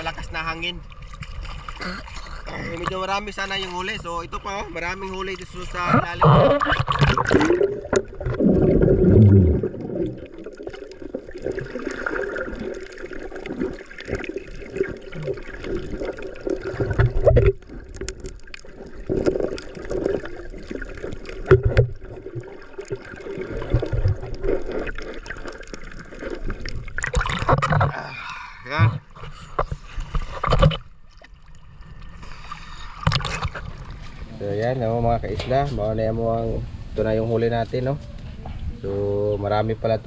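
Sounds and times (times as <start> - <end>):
sea water splashing and gurgling: 0.0 - 35.3.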